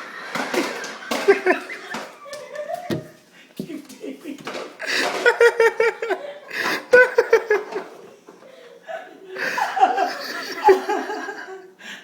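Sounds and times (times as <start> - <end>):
people giggling: 0.0 - 11.8.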